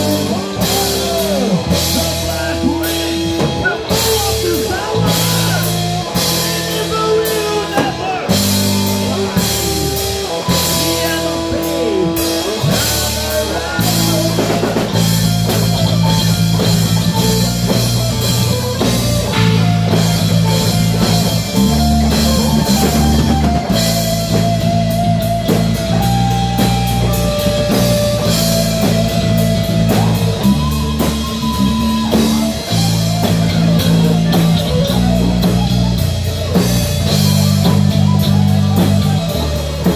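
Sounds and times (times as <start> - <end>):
heavy metal band playing live: 0.0 - 39.9
melodic lead guitar line: 0.0 - 39.9.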